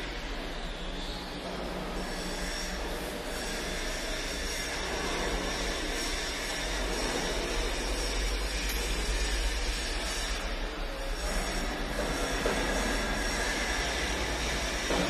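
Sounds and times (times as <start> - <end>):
cnc machine running: 0.0 - 15.0.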